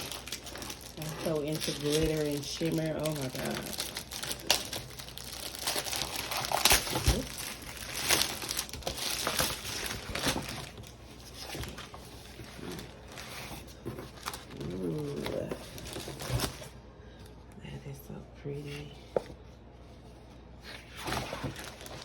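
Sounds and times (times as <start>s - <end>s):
plastic packaging crinkling and tearing: 0.0s - 16.7s, 20.8s - 22.0s.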